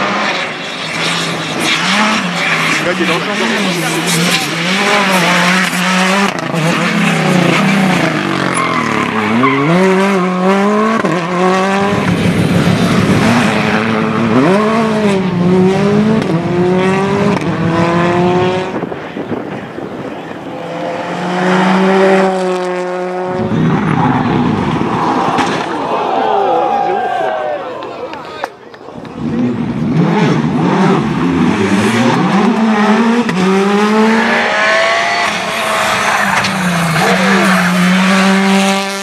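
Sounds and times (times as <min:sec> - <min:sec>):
rally car engines revving past: 0:00.0 - 0:26.1, 0:29.0 - 0:39.0.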